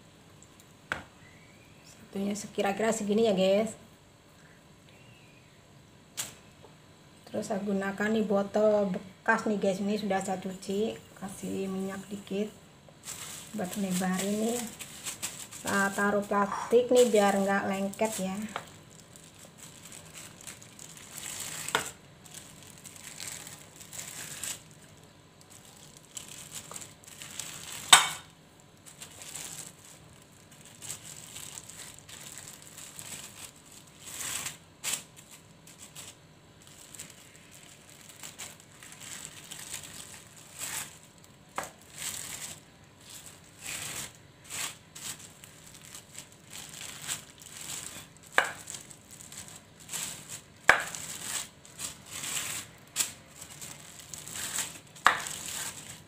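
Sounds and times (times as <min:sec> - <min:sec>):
plastic sheet crinkling: 0:10.5 - 0:56.0.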